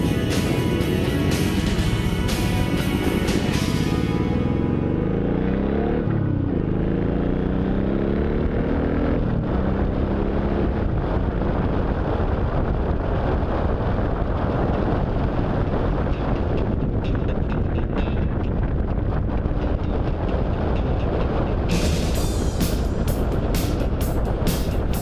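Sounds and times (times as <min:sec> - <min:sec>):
wind on microphone: 0:00.0 - 0:05.4, 0:07.8 - 0:25.0
motorcycle engine accelerating: 0:00.0 - 0:25.0.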